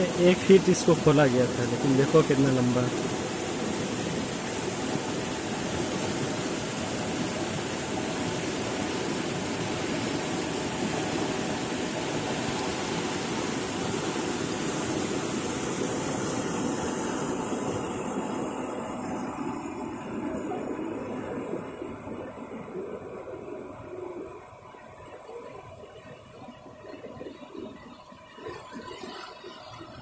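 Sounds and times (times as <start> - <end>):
floodwater rushing: 0.0 - 25.8.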